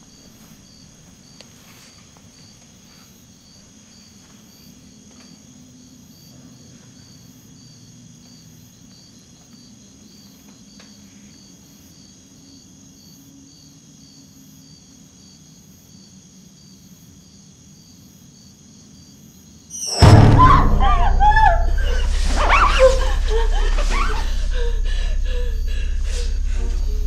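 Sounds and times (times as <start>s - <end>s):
crickets chirping: 0.0s - 27.0s
low night ambience hum: 0.0s - 27.0s.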